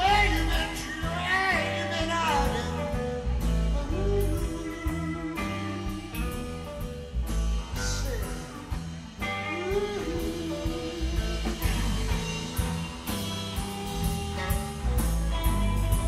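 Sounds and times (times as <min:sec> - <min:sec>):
bass and drums: 0:00.0 - 0:16.0
blues-rock lead guitar: 0:00.0 - 0:16.0.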